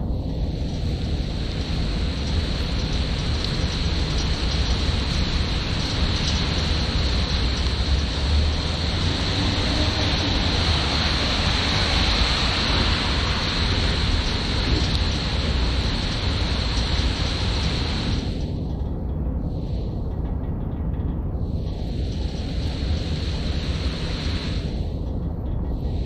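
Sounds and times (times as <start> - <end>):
rain on street: 0.0 - 18.9, 21.6 - 25.0
low rumble: 0.0 - 26.0.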